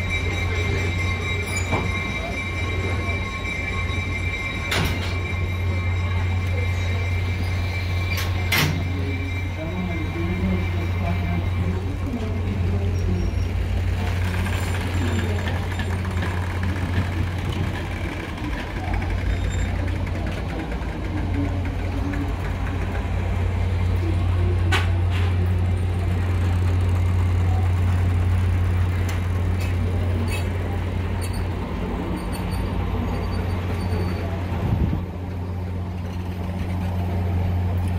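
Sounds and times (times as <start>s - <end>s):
diesel locomotive drone: 0.0s - 37.9s
train coaches rolling on rails: 0.0s - 37.9s.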